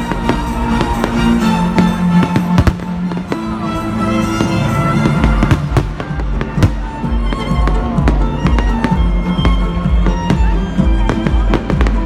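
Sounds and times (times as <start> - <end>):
bass beat: 0.0 - 12.0
fireworks bangs and crackles: 0.0 - 12.0
loud concert music: 0.0 - 12.0.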